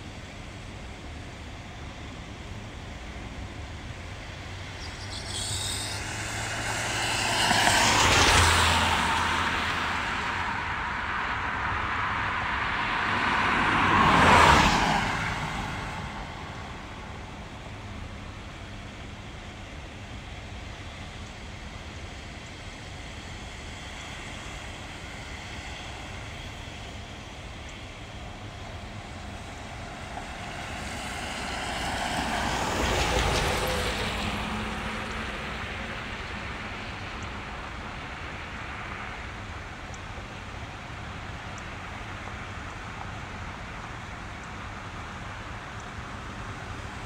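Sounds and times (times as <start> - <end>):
low traffic rumble: 0.0 - 47.0.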